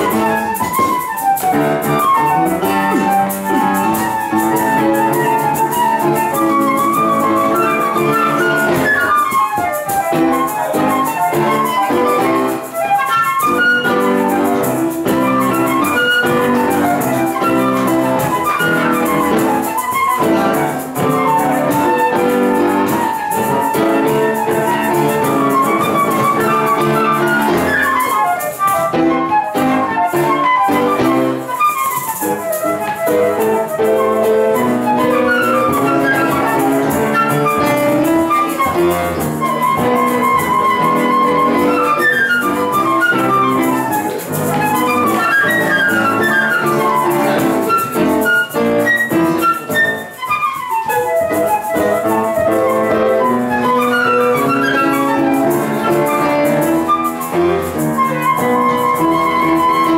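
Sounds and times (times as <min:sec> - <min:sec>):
flute melody: 0:00.0 - 0:59.9
piano chords: 0:00.0 - 0:59.9.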